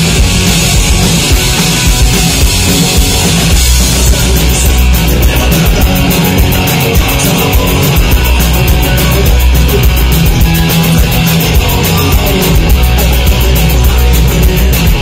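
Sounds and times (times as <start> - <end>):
cymbals fast beat: 0.0 - 15.0
punk rock band playing: 0.0 - 15.0.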